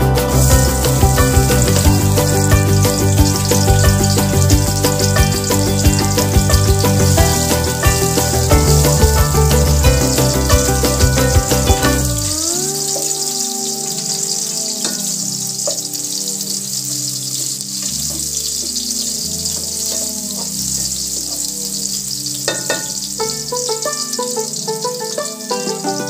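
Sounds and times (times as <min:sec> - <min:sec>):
garlic sizzling in hot oil: 0:00.0 - 0:26.0
soft background music: 0:00.0 - 0:26.0.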